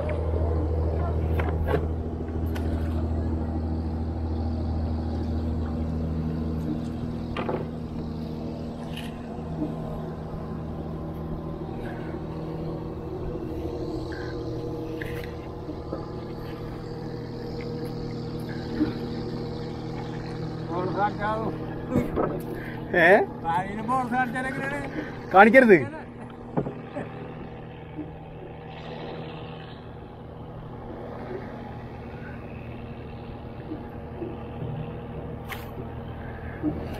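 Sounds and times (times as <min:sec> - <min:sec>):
boat engine droning: 0:00.0 - 0:36.9.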